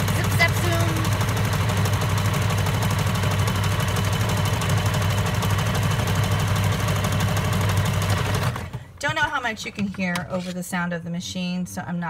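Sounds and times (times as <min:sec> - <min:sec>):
sewing machine stitching: 0:00.0 - 0:10.5.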